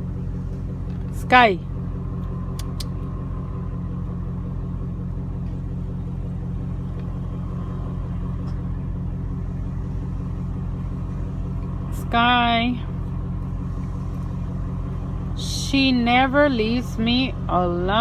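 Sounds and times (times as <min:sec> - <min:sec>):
car engine hum in cabin: 0:00.0 - 0:18.0.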